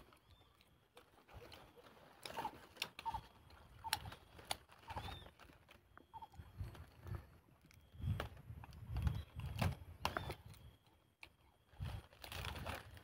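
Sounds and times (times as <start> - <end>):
chewing leaves: 0.0 - 13.0.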